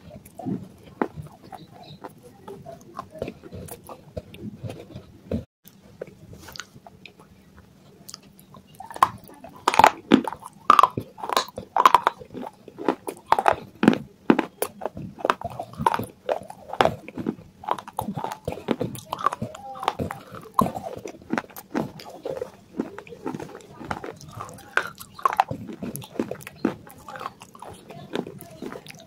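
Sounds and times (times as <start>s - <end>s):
chewing crunchy clay: 0.0s - 29.0s.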